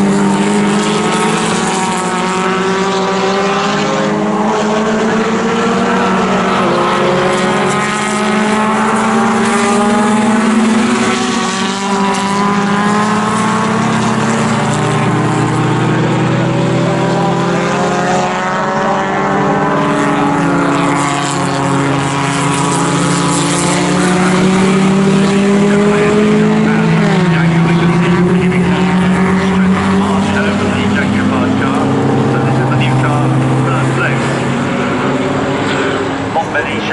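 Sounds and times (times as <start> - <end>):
racing car engines revving: 0.0 - 36.9.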